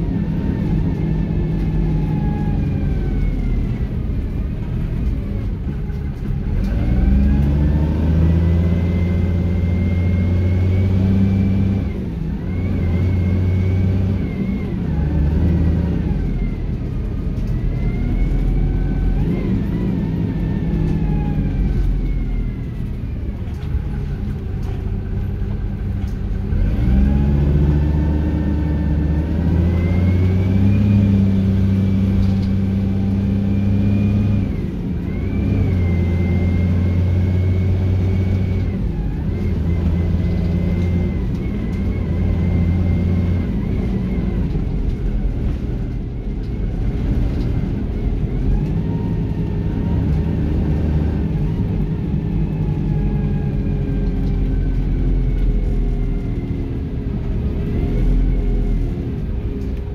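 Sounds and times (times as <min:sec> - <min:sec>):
bus engine accelerating: 0:00.0 - 0:59.9.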